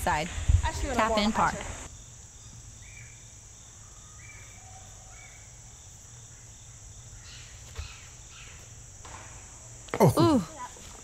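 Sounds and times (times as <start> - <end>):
insect drone: 0.0 - 11.0
pulsing insect chirp: 0.0 - 11.0.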